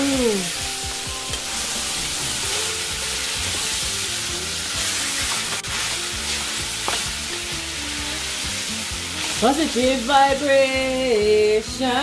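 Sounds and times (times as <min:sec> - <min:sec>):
background music: 0:00.0 - 0:12.0
food sizzling in a frying pan: 0:00.0 - 0:12.0.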